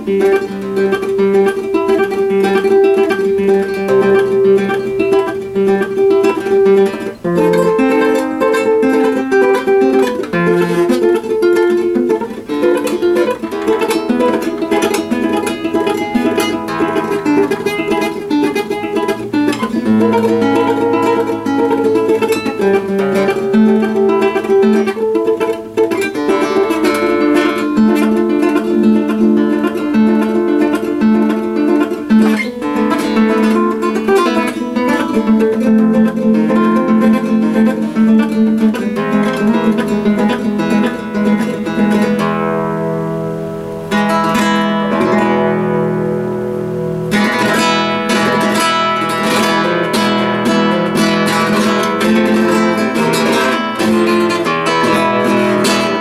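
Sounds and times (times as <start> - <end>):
classical guitar fingerstyle: 0.0 - 56.0.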